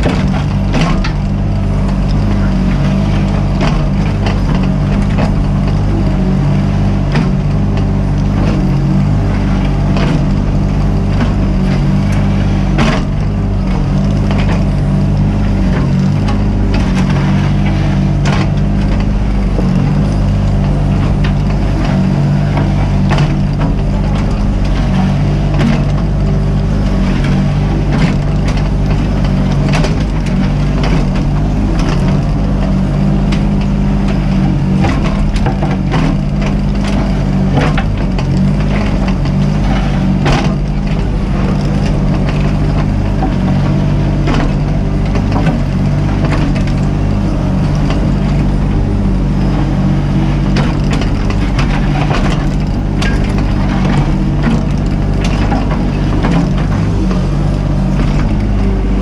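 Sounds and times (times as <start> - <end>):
bucket knocking and scraping: 0.0 - 59.0
excavator diesel engine running: 0.0 - 59.0.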